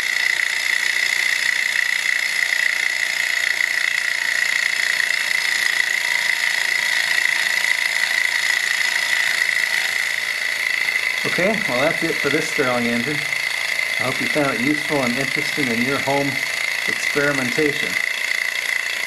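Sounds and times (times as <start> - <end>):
stirling engine buzzing: 0.0 - 19.0.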